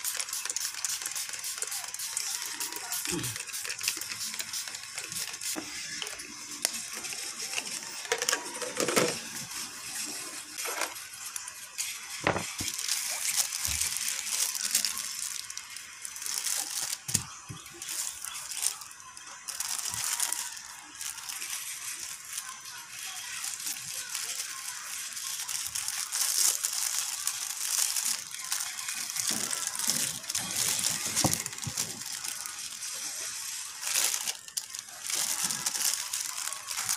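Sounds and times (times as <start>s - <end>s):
plastic bag rustling: 7.0s - 36.9s.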